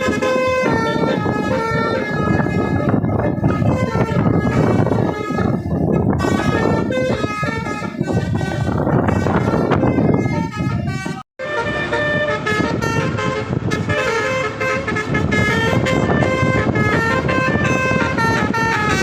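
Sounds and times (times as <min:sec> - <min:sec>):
engine and road noise: 0:00.0 - 0:19.0
musical air horns melody: 0:00.0 - 0:19.0.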